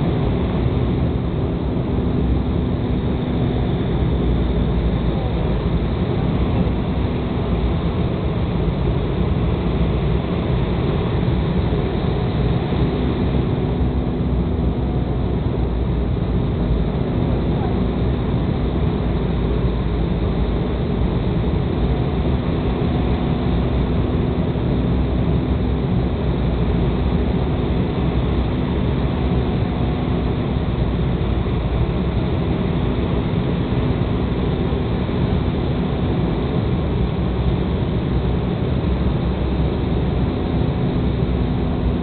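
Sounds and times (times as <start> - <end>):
airliner engines and airflow rumble: 0.0 - 42.0.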